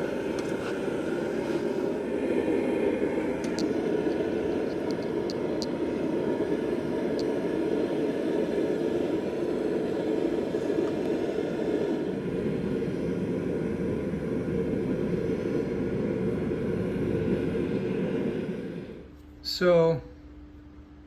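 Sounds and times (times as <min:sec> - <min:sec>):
steady low roar: 0:00.0 - 0:19.1.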